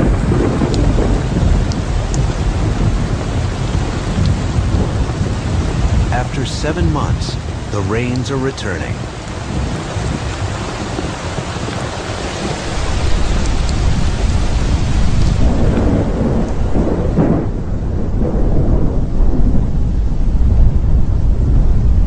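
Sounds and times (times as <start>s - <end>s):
rain pouring: 0.0s - 22.0s
thunder rumbling: 0.0s - 22.0s.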